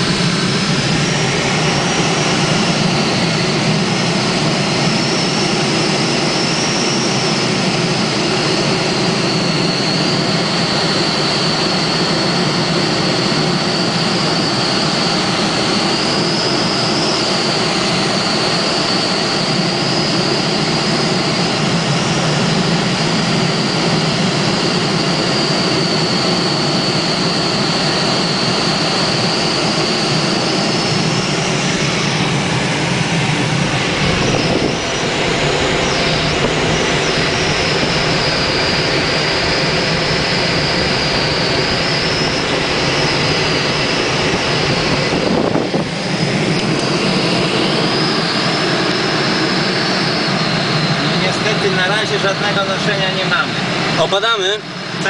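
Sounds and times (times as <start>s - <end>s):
airflow rushing around cockpit: 0.0s - 55.0s.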